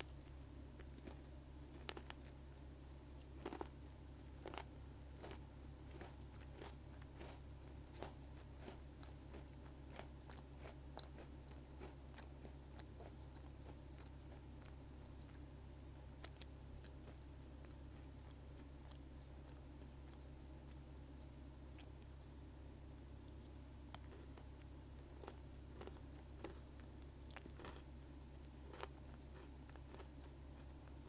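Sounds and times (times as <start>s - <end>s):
crunchy biscuit chewing: 0.0s - 31.0s.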